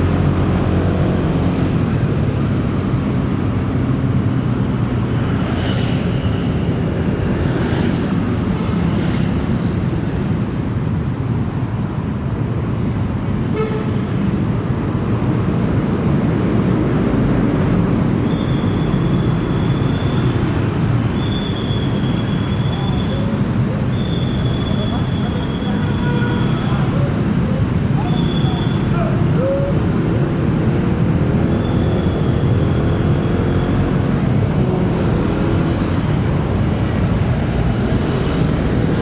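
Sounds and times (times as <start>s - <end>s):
vehicles rushing past: 0.0s - 39.0s.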